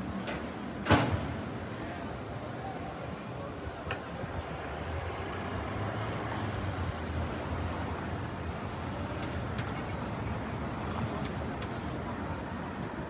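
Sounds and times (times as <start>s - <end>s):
city background noise: 0.0s - 13.0s.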